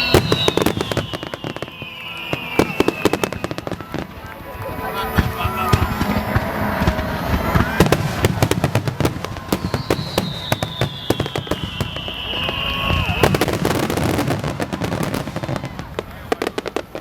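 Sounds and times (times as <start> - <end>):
fireworks bangs and crackles: 0.0 - 17.0
long falling firework whistle: 0.0 - 17.0.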